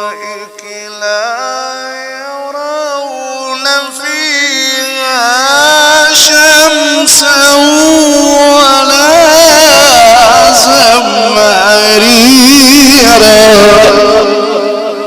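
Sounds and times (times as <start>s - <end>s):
man chanting with heavy echo: 0.0s - 15.0s.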